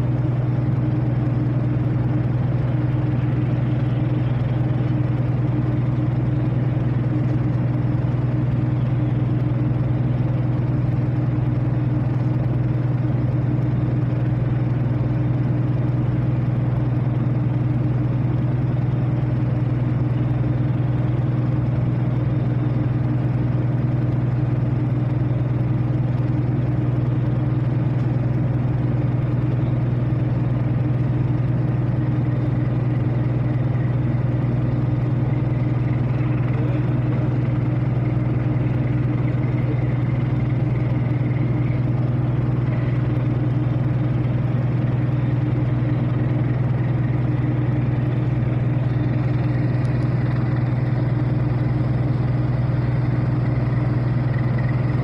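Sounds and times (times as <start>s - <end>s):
ship diesel engine drone: 0.0s - 55.0s.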